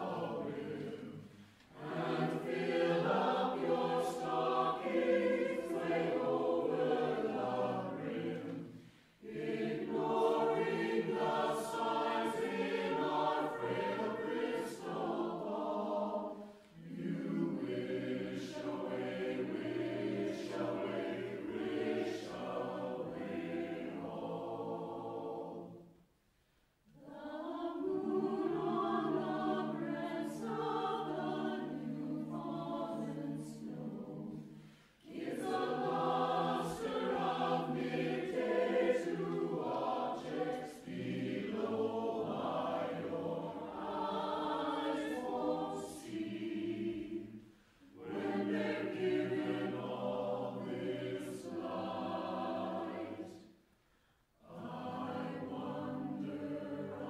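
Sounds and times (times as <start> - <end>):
a cappella choir singing: 0.0 - 57.0.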